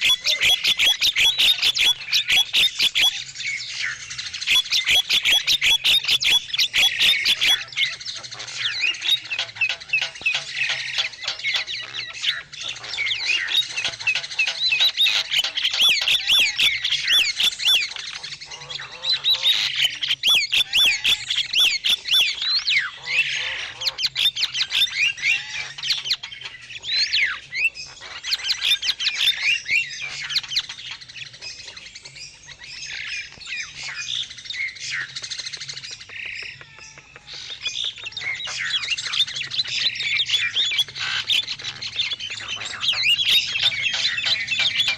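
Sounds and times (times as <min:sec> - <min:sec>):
starlings chattering: 0:00.0 - 0:44.9.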